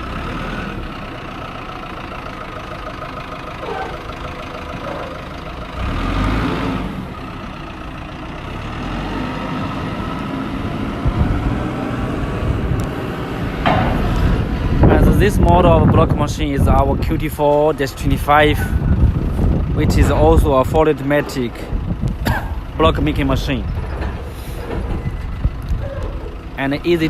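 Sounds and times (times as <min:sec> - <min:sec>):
vehicle engine idling: 0:00.0 - 0:11.3, 0:12.5 - 0:27.0.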